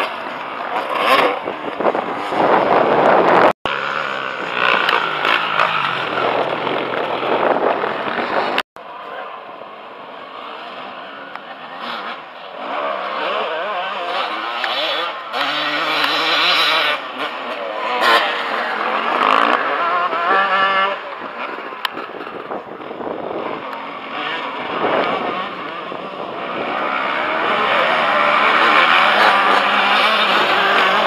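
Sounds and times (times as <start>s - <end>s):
dirt bike engines revving: 0.0s - 31.0s.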